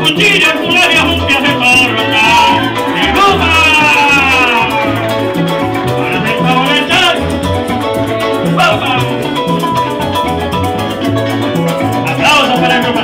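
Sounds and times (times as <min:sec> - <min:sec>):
upright bass line: 0:00.0 - 0:13.0
maracas shaking: 0:00.1 - 0:13.0
strummed small guitar: 0:00.3 - 0:13.0
harp melody: 0:00.9 - 0:12.0.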